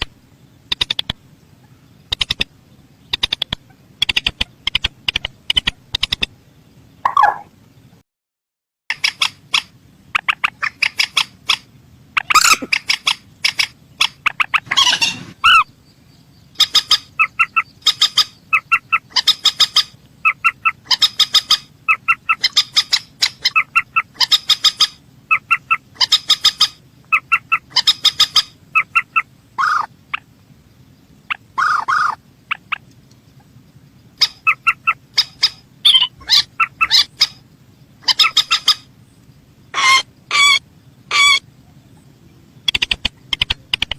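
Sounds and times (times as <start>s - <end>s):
faint low hum: 0.0s - 8.0s, 8.9s - 43.9s
harsh bird calls: 0.0s - 8.0s, 8.9s - 43.9s.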